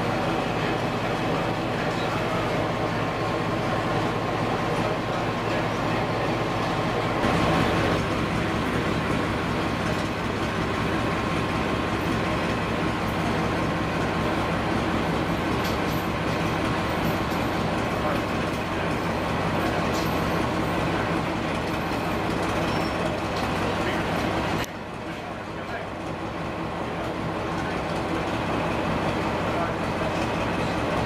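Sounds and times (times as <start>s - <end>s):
locomotive diesel engine running: 0.0s - 31.0s.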